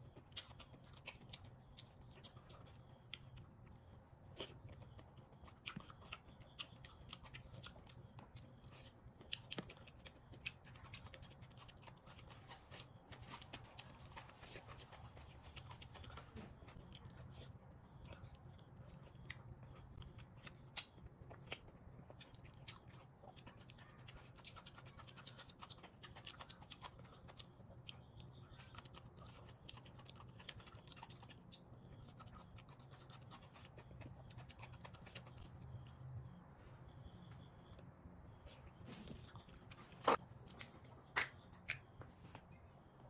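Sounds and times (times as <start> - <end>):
person chewing food: 0.0 - 36.4
low steady hum: 0.0 - 43.0.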